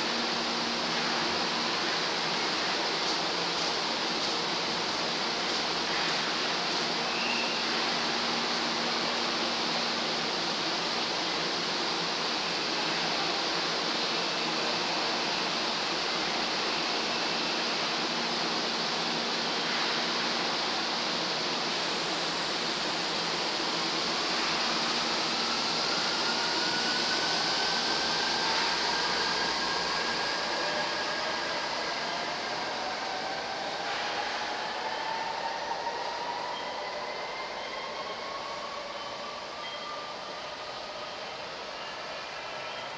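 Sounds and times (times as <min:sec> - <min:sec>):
train rushing noise: 0:00.0 - 0:42.9.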